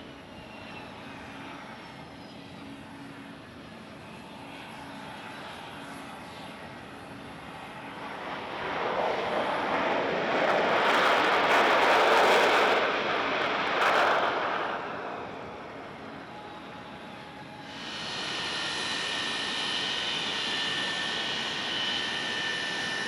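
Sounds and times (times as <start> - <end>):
jet aircraft engines roaring: 0.0 - 23.0.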